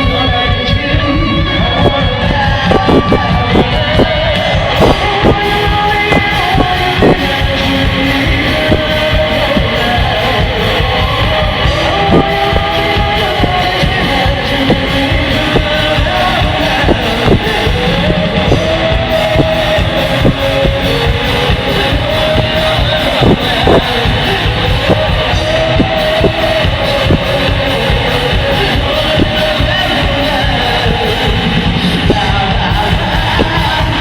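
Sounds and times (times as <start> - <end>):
drums: 0.0 - 34.0
electric guitar: 0.0 - 34.0
lead vocal singing: 0.0 - 34.0.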